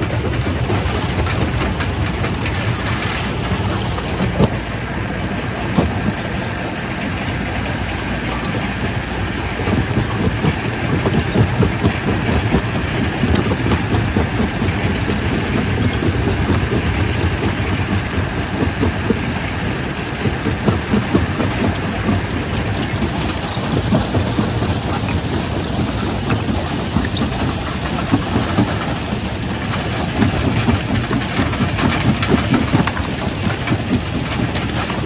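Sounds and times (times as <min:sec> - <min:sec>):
rock crusher rumbling: 0:00.0 - 0:35.0.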